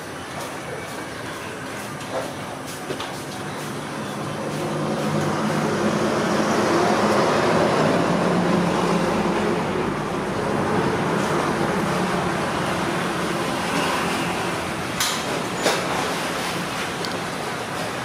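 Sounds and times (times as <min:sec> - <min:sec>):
road traffic noise: 0:00.0 - 0:18.0
low engine hum: 0:03.5 - 0:18.0.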